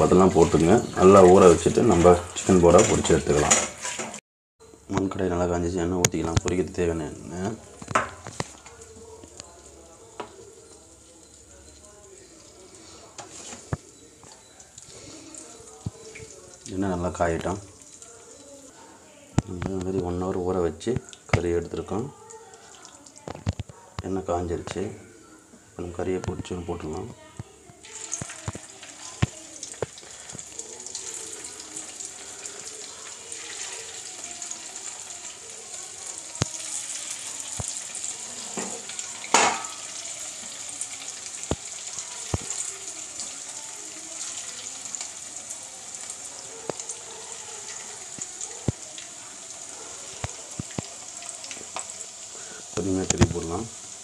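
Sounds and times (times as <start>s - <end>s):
chicken sizzling in hot oil: 0.0s - 4.8s, 5.8s - 18.8s, 27.8s - 54.0s
oil popping and crackling: 7.4s - 18.7s, 19.4s - 24.8s, 27.0s - 54.0s.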